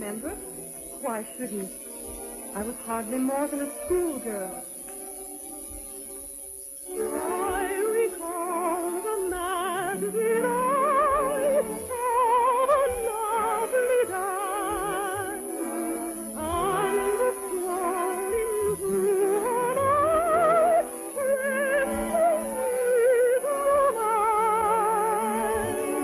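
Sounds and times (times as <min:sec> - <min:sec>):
orchestral operetta music: 0:00.0 - 0:26.0.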